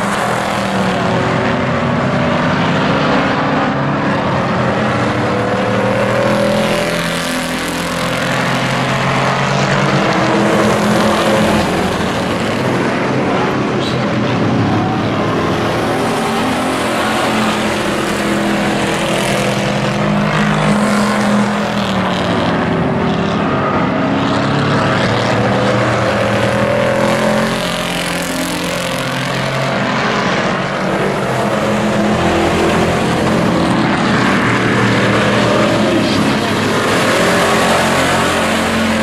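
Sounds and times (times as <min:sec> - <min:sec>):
race truck engines: 0:00.0 - 0:39.0.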